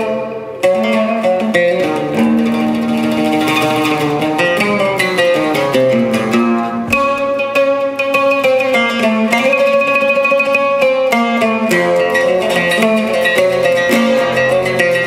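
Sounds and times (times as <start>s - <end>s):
solo oud playing: 0.0s - 15.0s.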